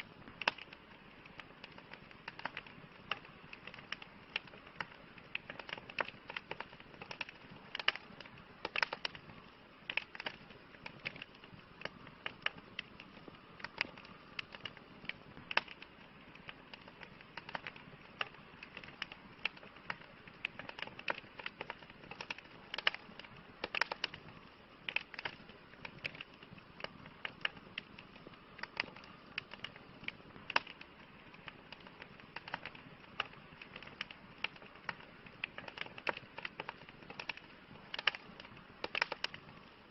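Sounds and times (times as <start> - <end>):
faint fire hiss: 0.0 - 39.9
wood fire crackling and popping: 0.0 - 39.9.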